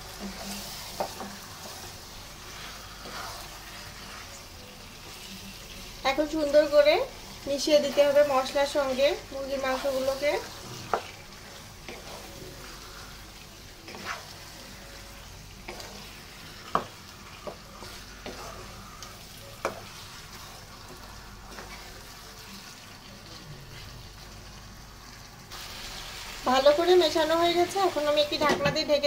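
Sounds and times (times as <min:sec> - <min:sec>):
food sizzling in frying pan: 0:00.0 - 0:29.0.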